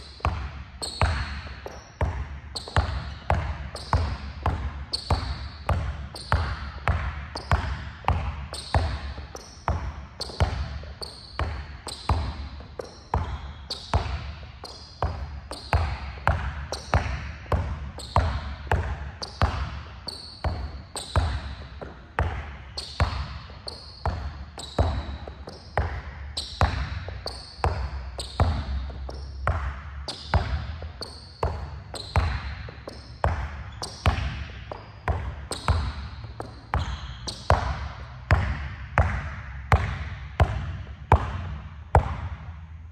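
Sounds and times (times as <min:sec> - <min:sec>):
basketball bouncing: 0:00.0 - 0:42.7.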